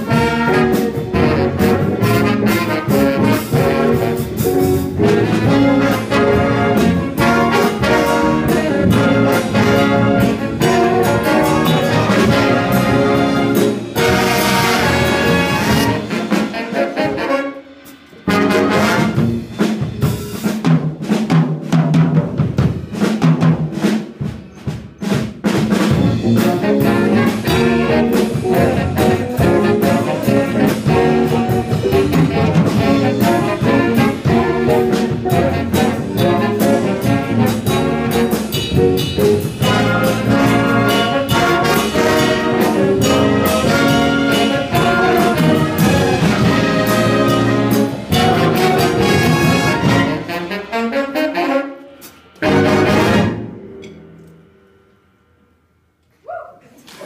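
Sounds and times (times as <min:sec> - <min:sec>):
saxophones: 0:00.0 - 0:19.6, 0:26.6 - 0:54.2
trumpets: 0:00.0 - 0:19.6, 0:26.1 - 0:53.7
trombones: 0:00.0 - 0:20.4, 0:25.5 - 0:53.9
drum kit: 0:00.0 - 0:55.6.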